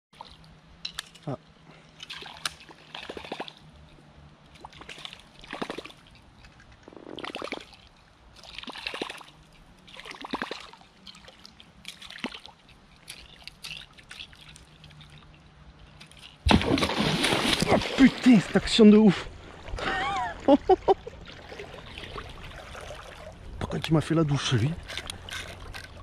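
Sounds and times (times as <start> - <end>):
lure gurgling and splashing on water: 2.0 - 3.7, 4.5 - 18.9, 21.0 - 26.0.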